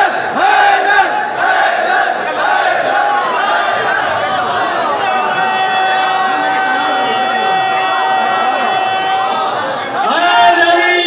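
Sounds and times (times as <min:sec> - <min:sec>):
crowd of men shouting and cheering: 0:00.0 - 0:11.0.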